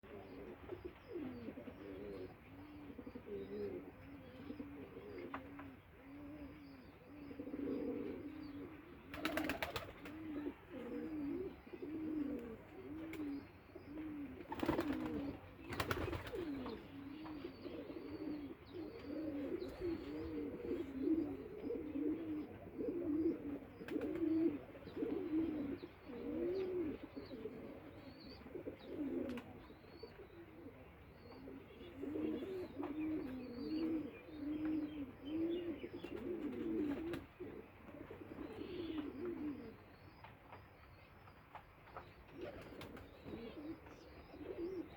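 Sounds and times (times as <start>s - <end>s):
pigeons cooing: 0.0s - 40.4s, 42.0s - 44.9s.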